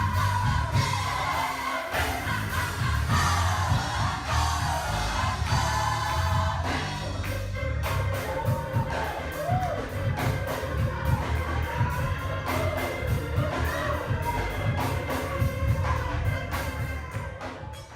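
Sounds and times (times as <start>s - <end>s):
steady percussion beat: 0.0s - 17.9s
voices singing gospel: 0.0s - 17.9s.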